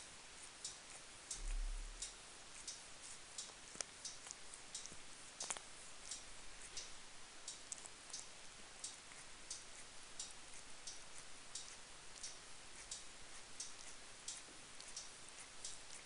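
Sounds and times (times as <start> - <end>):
low hiss: 0.0 - 16.0
cat licking wet clicks: 0.4 - 1.3, 2.3 - 16.0.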